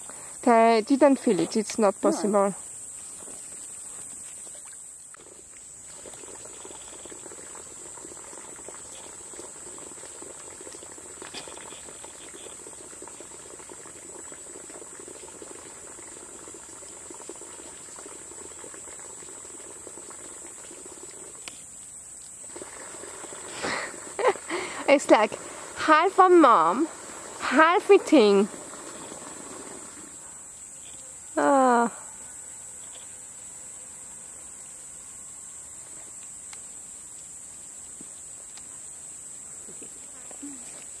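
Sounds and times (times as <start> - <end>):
high insect buzz: 0.0 - 41.0.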